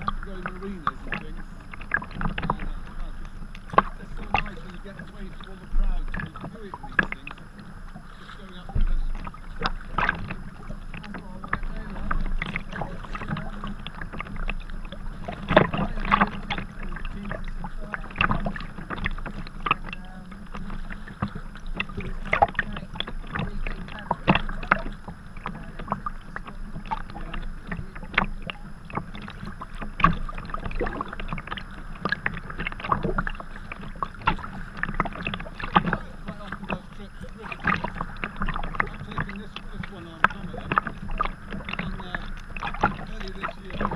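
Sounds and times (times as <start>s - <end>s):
paddle splashing into water: 0.0s - 43.9s
water slapping along hull: 0.0s - 43.9s.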